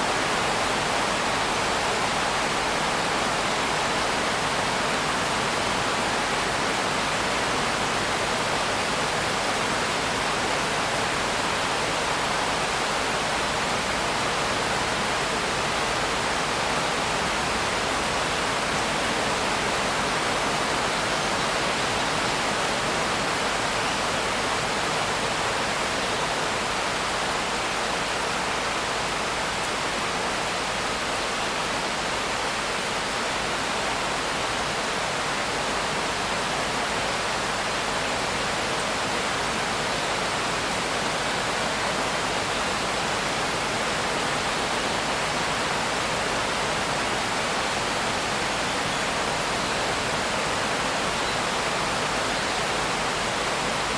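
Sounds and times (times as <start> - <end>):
dense rainfall hiss: 0.0 - 53.9.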